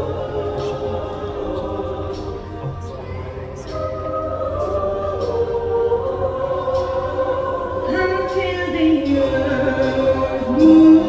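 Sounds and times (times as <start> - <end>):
choir singing sustained chords: 0.0 - 11.0.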